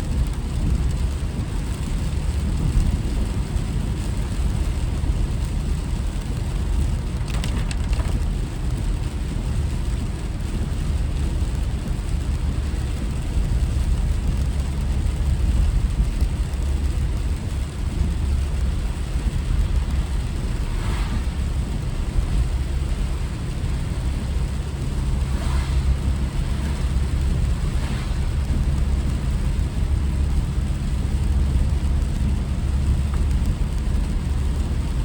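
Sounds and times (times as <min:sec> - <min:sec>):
car driving rumble: 0:00.0 - 0:35.0.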